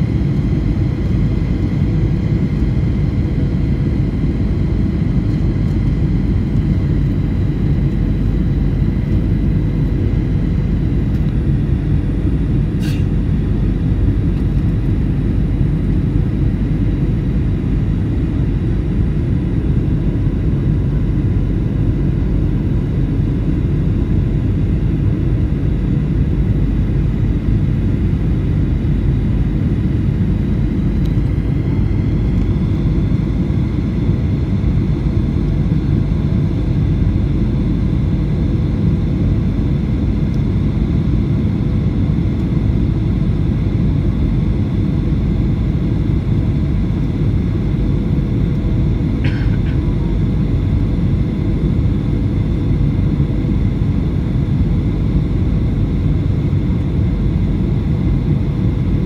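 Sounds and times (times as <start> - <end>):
airliner engine and airflow rumble: 0.0 - 59.0
faint constant whine: 0.0 - 59.0.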